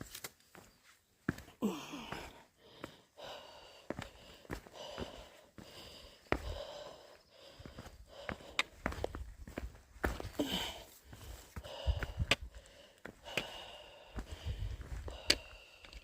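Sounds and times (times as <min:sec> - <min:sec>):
footsteps on rocky trail: 0:00.0 - 0:16.0
hard breathing: 0:01.4 - 0:16.0.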